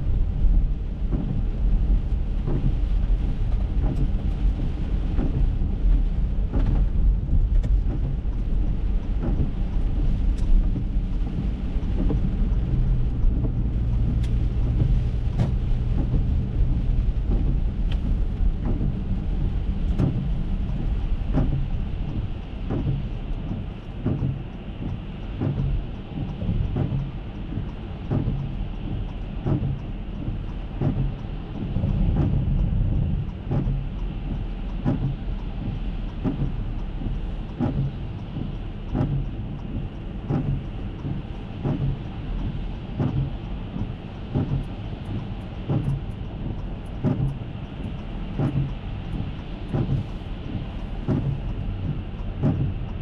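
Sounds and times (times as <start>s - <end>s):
engine and road rumble: 0.0s - 53.0s
heavy rain drumming on car: 0.0s - 53.0s.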